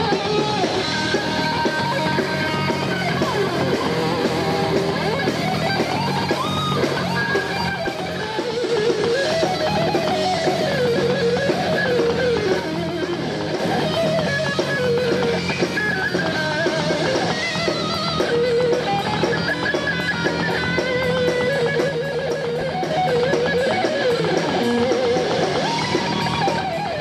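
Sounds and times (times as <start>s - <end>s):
bending lead guitar line: 0.0s - 27.0s
live rock band: 0.0s - 27.0s.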